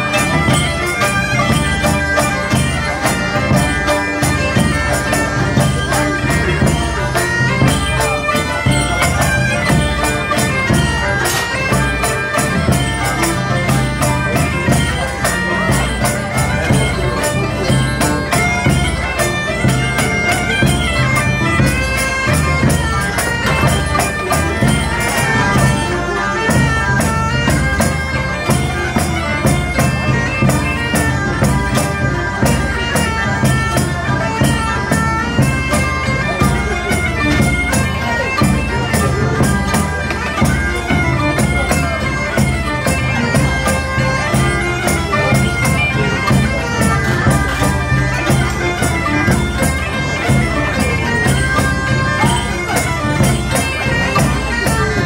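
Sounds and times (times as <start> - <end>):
bagpipe playing over drone: 0.0 - 55.0
side drums beating: 0.0 - 55.0.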